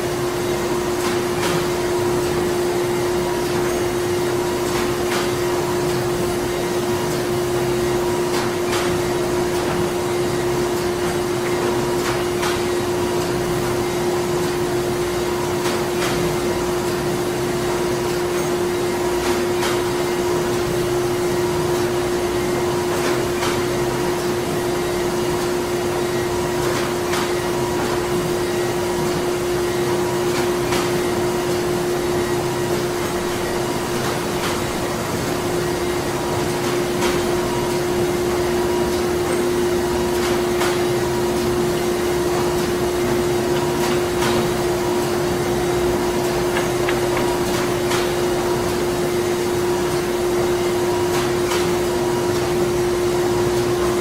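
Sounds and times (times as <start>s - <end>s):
machinery humming with constant tone: 0.0s - 54.0s.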